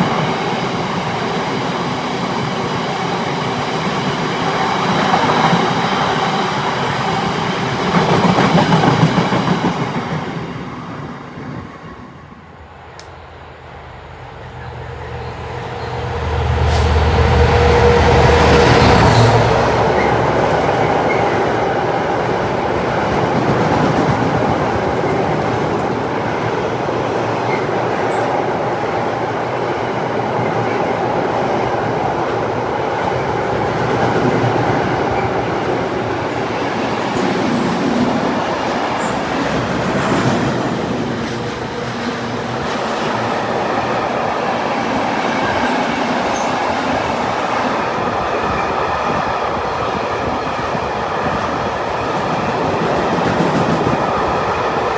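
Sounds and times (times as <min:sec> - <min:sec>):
train rolling rumble and clatter: 0:00.0 - 0:13.1, 0:14.2 - 0:54.9.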